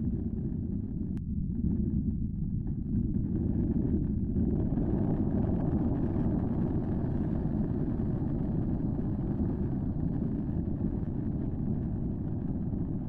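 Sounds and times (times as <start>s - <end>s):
volcano low rumble: 0.0s - 13.0s.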